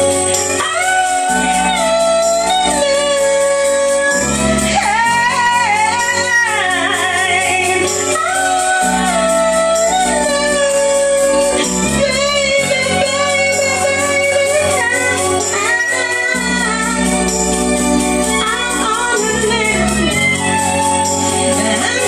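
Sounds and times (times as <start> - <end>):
instrumental backing track: 0.0 - 22.0
woman singing into microphone: 0.1 - 22.0.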